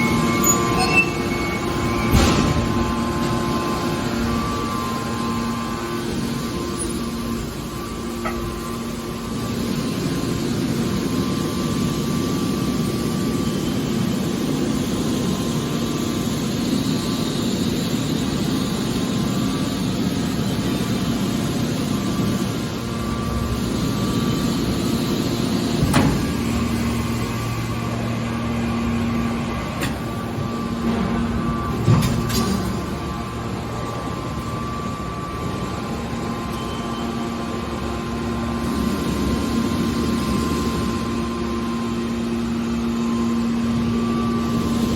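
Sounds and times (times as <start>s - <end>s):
hydraulic baler humming: 0.0s - 44.9s.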